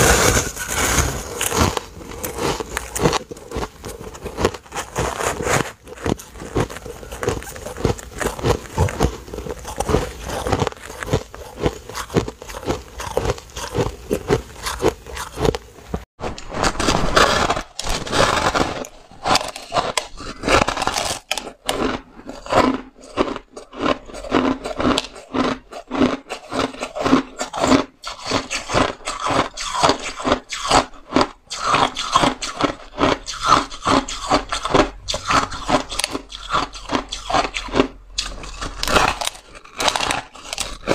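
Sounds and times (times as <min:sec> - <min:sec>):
chewing crunchy shaved ice: 0:00.0 - 0:16.1, 0:17.1 - 0:40.9.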